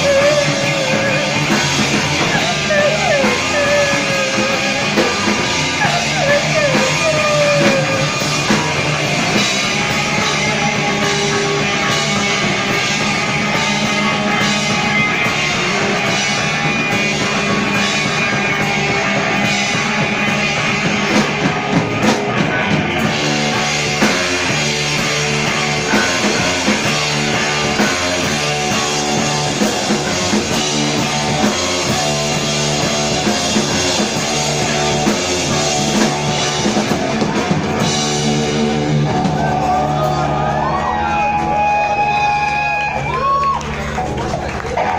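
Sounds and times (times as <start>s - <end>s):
drums: 0.0s - 44.9s
electric guitar: 0.0s - 44.9s
rock band playing live: 0.0s - 44.9s.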